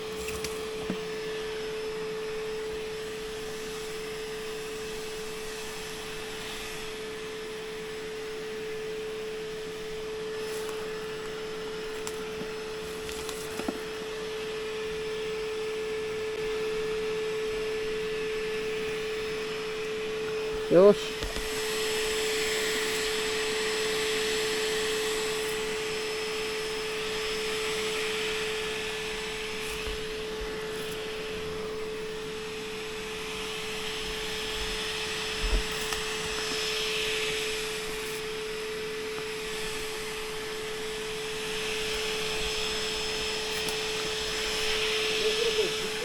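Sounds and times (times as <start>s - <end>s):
motor humming: 0.0s - 46.0s.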